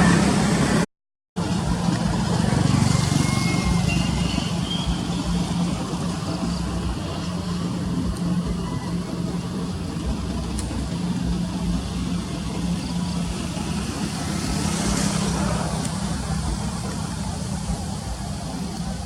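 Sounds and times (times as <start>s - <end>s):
rush of noise: 1.4s - 19.0s
vehicle engine running: 1.4s - 19.0s.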